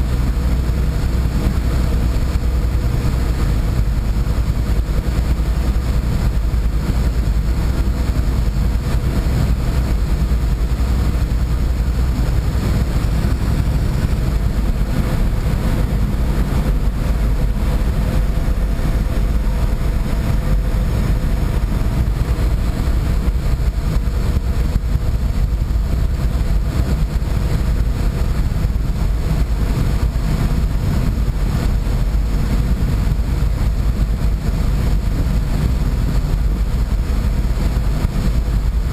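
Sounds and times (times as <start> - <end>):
boat engine rumble: 0.0 - 38.9.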